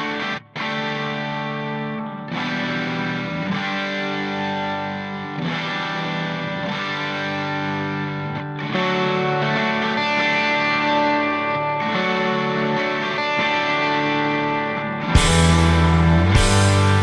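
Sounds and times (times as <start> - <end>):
sustained guitar chords with effects: 0.0 - 17.0.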